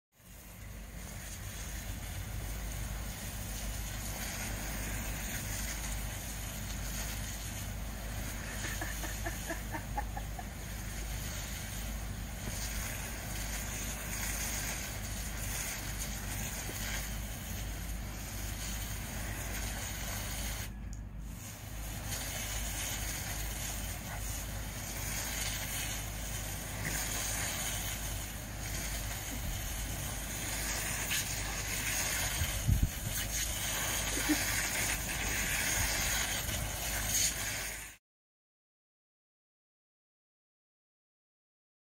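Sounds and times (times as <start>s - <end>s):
hosepipe spraying water: 0.2s - 38.0s.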